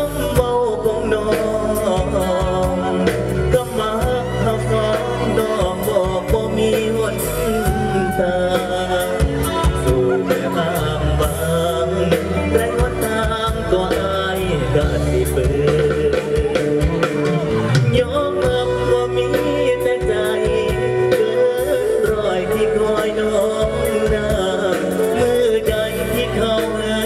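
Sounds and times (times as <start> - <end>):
live band with drums: 0.0 - 27.0
person singing into a microphone: 0.0 - 27.0.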